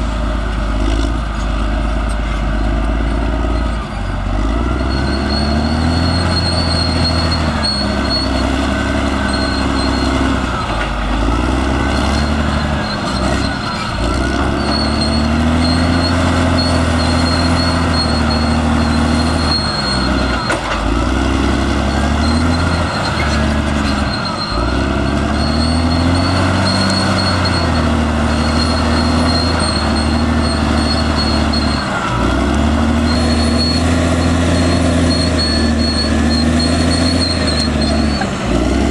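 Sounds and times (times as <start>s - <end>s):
bulldozer diesel engine labouring: 0.0s - 38.9s.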